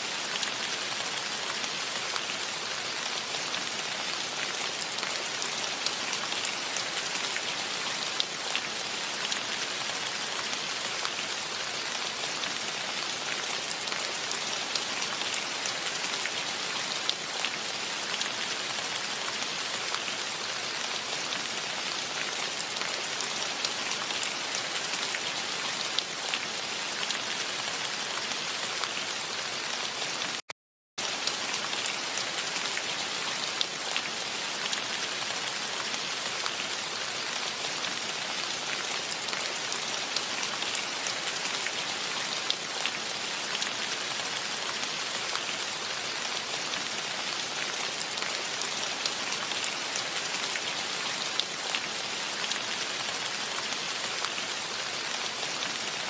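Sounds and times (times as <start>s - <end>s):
gentle rain in a forest: 0.0s - 56.0s.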